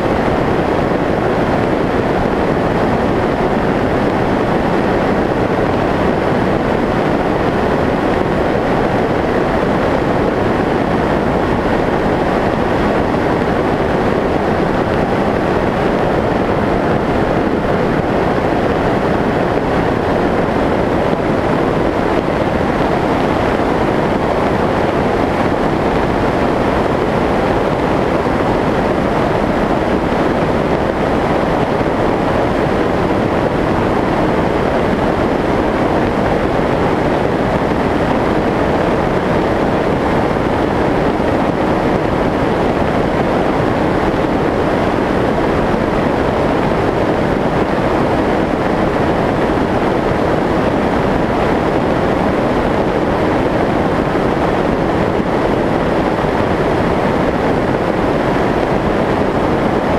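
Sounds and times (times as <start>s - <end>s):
rushing airflow: 0.0s - 59.9s.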